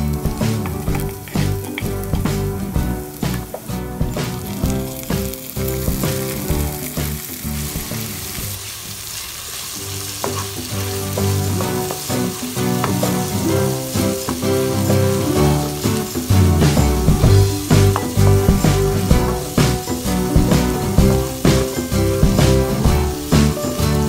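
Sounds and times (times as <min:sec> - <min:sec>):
background music: 0:00.0 - 0:08.5, 0:09.9 - 0:24.0
vegetables sizzling in oil: 0:00.0 - 0:24.0
wooden spatula scraping wok: 0:00.5 - 0:23.6.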